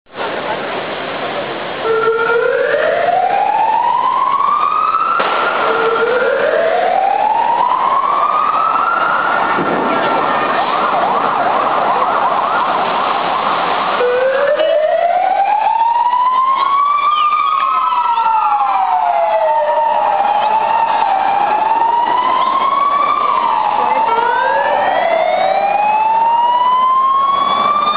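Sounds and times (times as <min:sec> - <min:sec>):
street crowd noise: 0:00.1 - 0:27.9
sirens wailing: 0:01.8 - 0:27.9.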